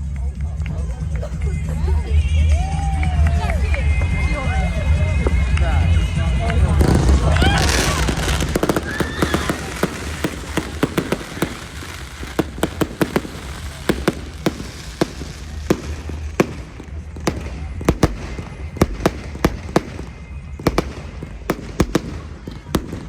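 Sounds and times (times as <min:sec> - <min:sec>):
fireworks bangs and pops: 0:02.6 - 0:23.0.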